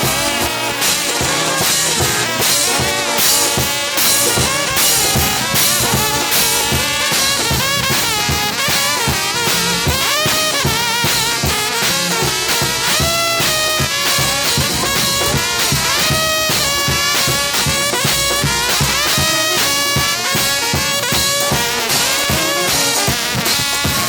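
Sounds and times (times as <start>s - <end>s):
brass band playing: 0.0s - 24.0s
drum kit beat: 0.0s - 24.0s.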